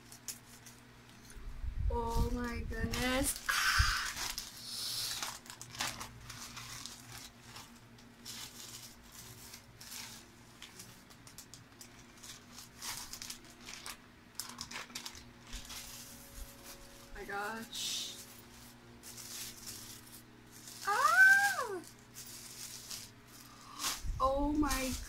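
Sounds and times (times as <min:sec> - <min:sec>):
plastic packaging rustling: 0:00.0 - 0:01.4, 0:02.0 - 0:25.0.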